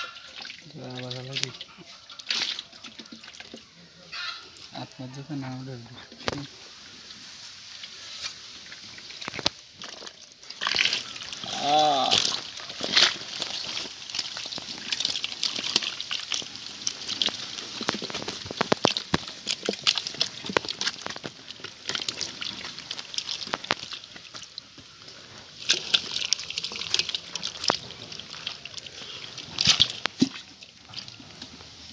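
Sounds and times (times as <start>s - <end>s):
fish splashing in metal basin: 0.0s - 6.6s, 7.8s - 31.9s.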